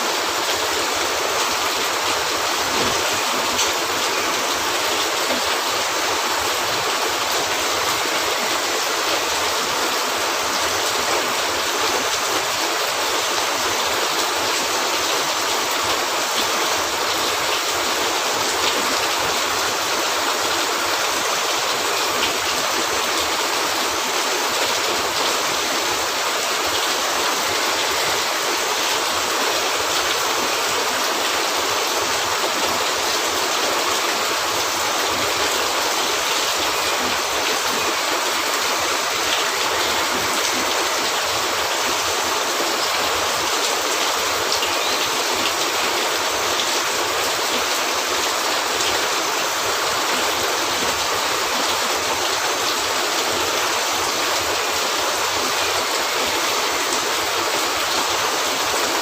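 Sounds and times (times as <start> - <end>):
rain falling on a roof: 0.0 - 59.0.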